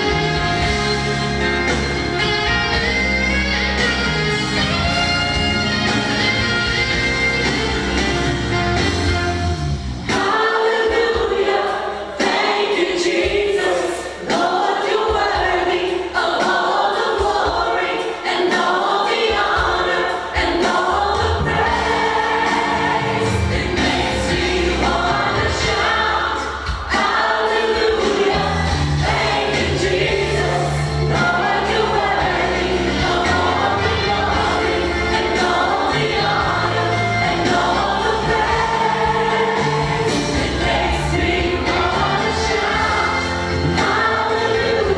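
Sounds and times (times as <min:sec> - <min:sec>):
choir singing gospel song: 0:00.0 - 0:44.9.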